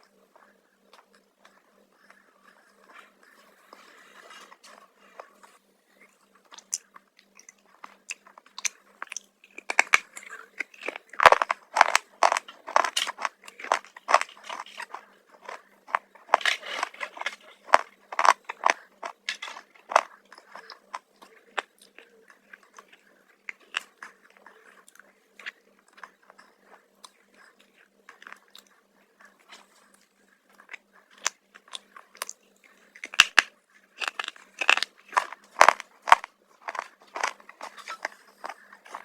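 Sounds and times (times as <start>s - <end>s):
chips crunching while chewed: 6.5s - 39.0s.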